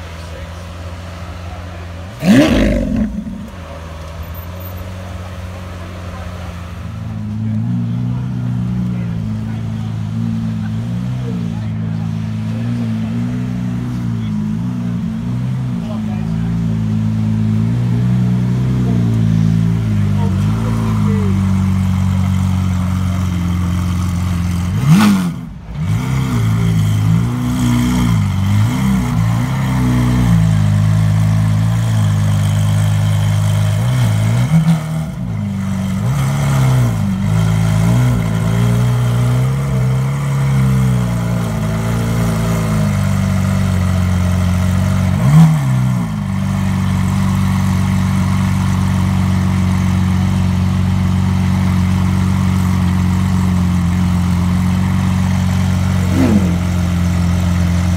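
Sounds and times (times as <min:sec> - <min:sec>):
car engine idling and revving: 0:00.0 - 0:57.9.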